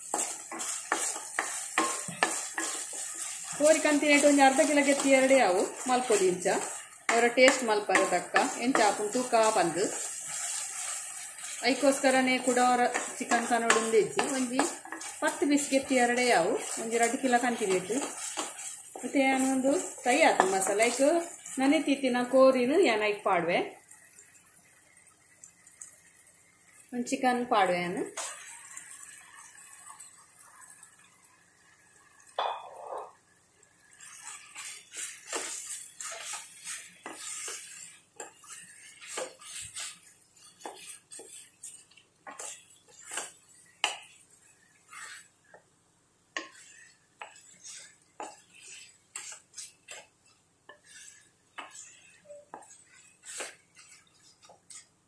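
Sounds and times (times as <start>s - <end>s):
wooden spatula scraping a pan: 0.0s - 24.4s, 26.7s - 30.0s, 33.8s - 45.7s, 46.3s - 55.0s
oil sizzling: 0.0s - 55.0s.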